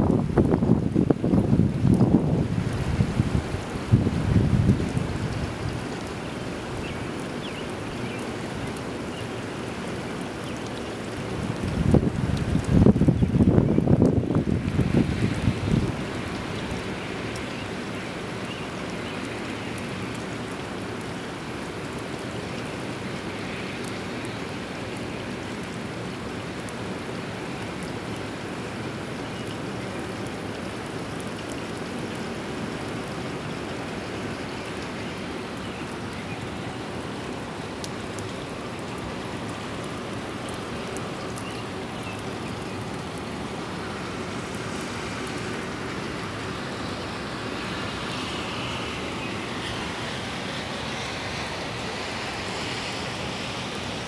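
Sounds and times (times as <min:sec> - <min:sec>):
faint ticks of raindrops: 0:00.0 - 0:54.0
steady rain hiss: 0:00.0 - 0:54.0.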